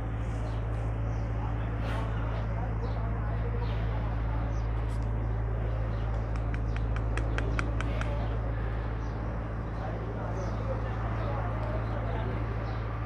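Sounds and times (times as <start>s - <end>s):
distant noise: 0.0s - 13.0s
low hum: 0.0s - 13.0s.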